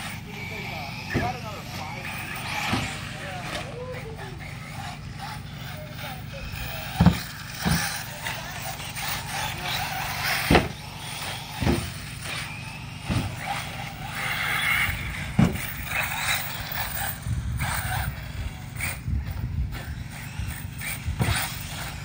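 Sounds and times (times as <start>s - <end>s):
rc buggy motors racing: 0.0s - 22.0s.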